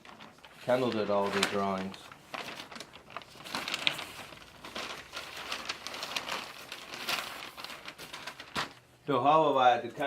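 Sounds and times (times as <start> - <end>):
paper-like rustling: 0.0 - 8.8.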